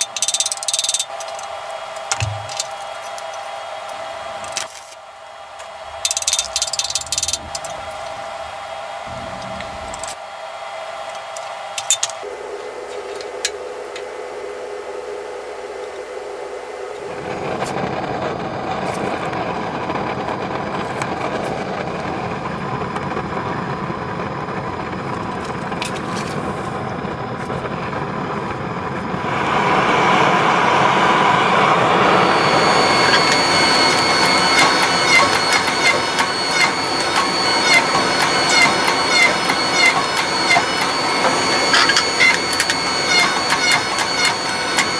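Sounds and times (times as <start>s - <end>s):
gas forge burner roaring: 0.0s - 44.9s
steady high whine: 0.0s - 44.9s.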